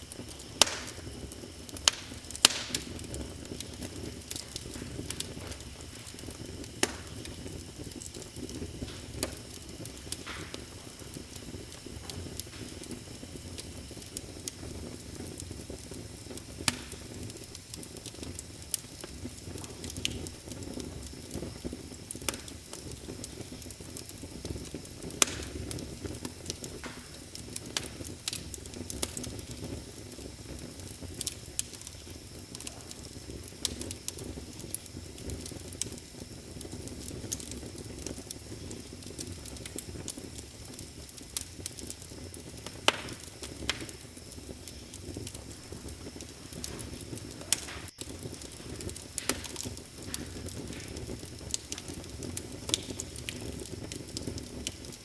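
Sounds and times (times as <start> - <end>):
fire crackling and popping: 0.0 - 55.0
low rumble of burning: 0.0 - 55.0.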